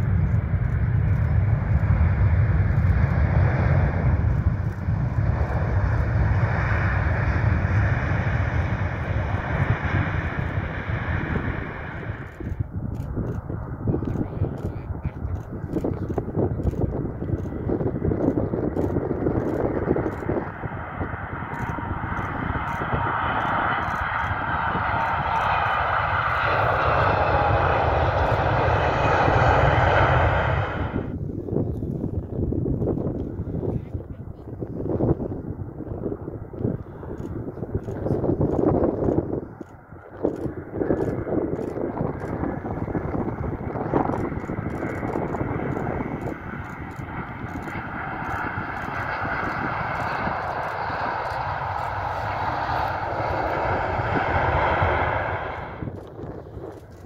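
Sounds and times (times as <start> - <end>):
jet engines roaring: 0.0 - 57.0
wind buffeting microphone: 0.0 - 57.0.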